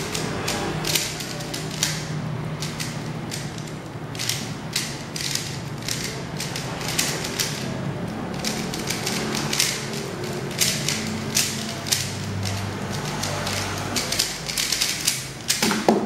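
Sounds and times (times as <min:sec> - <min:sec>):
puzzle cube plastic clicks: 0:00.0 - 0:07.7, 0:08.3 - 0:16.0.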